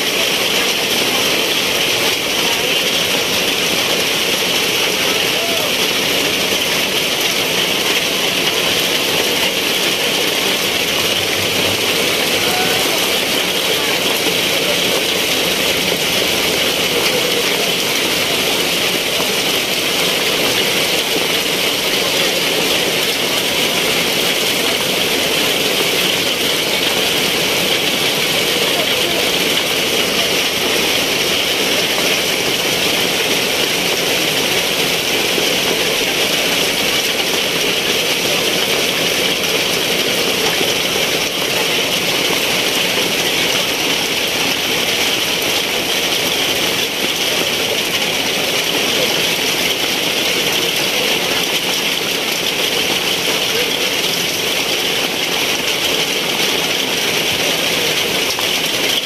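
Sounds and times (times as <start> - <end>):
heavy rain on paving: 0.0 - 59.0.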